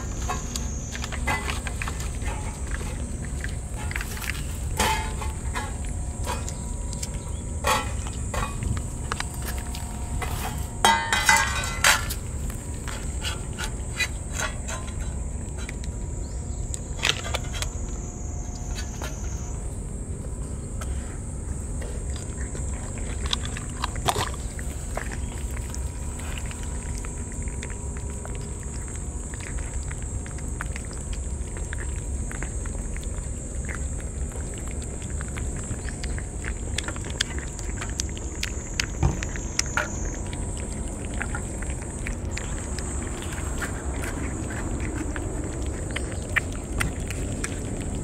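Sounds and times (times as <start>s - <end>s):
cats licking and chewing food: 0.0s - 48.0s
high insect drone: 0.0s - 48.0s.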